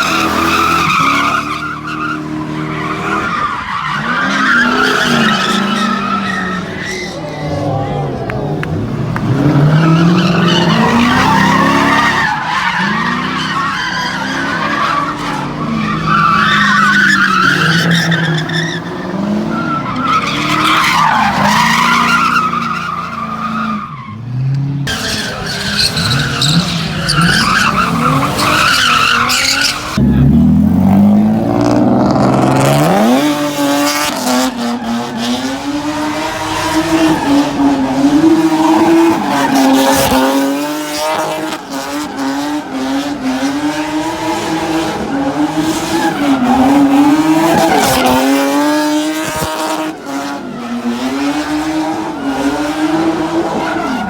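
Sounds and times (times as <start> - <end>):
car engines revving: 0.0 - 54.0
tires squealing: 0.0 - 54.0.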